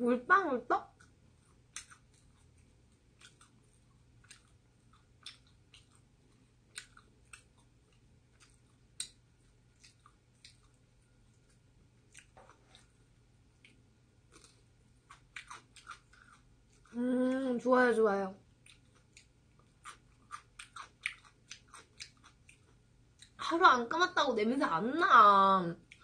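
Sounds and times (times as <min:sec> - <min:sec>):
close-up chewing: 0:00.8 - 0:17.5, 0:18.4 - 0:23.4, 0:25.8 - 0:26.0.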